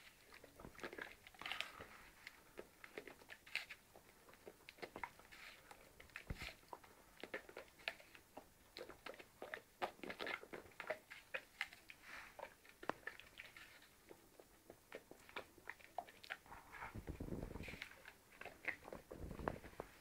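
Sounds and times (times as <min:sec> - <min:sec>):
dog crunching apple: 0:00.0 - 0:20.0.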